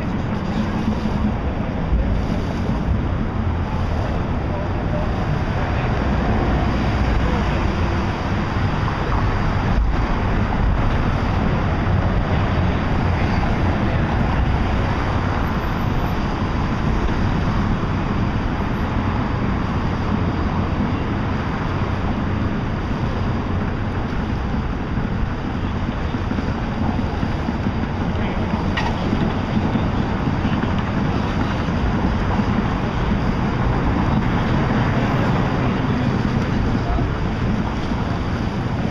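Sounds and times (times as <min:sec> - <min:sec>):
low engine rumble: 0:00.0 - 0:38.9
traffic: 0:00.0 - 0:38.9
wind on microphone: 0:00.0 - 0:38.9.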